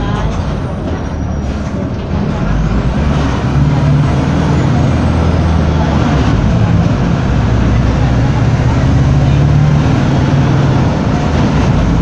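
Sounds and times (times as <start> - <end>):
bus diesel engine accelerating: 0.0 - 12.0
road noise: 0.0 - 12.0.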